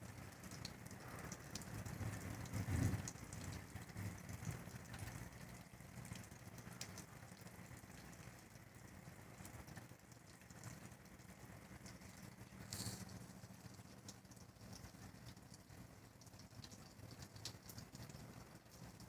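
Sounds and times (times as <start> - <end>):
raindrops ticking: 0.0 - 19.0
steady rain: 0.0 - 19.0.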